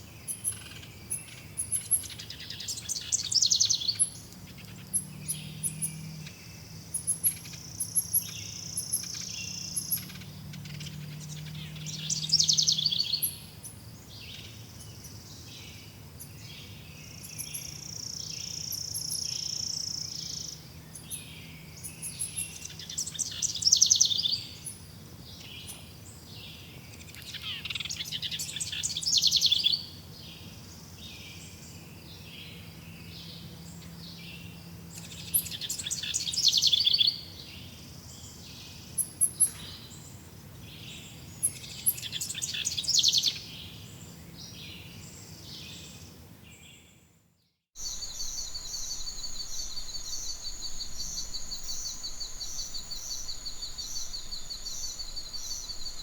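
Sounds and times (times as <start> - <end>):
high-pitched bird chorus: 0.0 - 46.9, 47.8 - 56.0
songbird trilled song: 0.0 - 47.0, 47.8 - 56.0.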